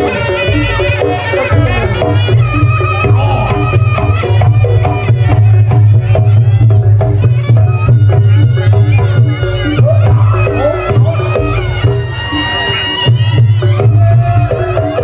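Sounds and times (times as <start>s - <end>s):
fast hand drumming: 0.0s - 15.0s.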